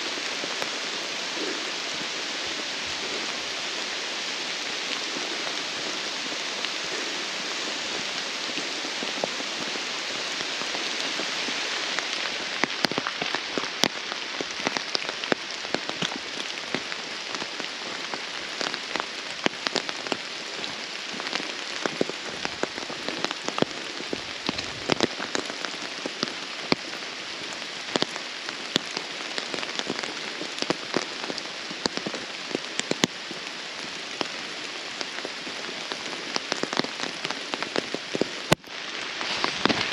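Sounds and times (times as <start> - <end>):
rain hissing: 0.0 - 39.9
raindrops tapping close by: 0.0 - 39.9.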